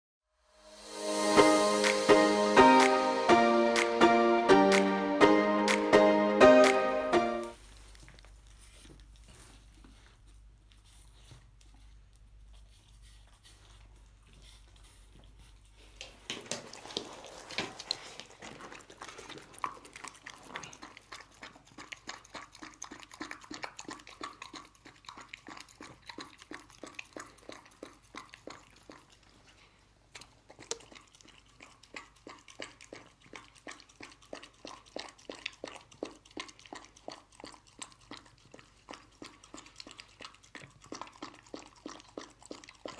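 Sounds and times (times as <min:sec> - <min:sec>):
dog chewing wet food: 0:07.9 - 0:42.9.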